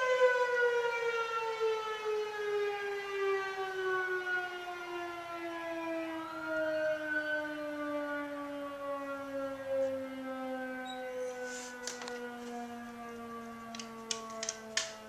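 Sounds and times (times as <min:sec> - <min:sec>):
fire siren winding down: 0:00.0 - 0:15.0.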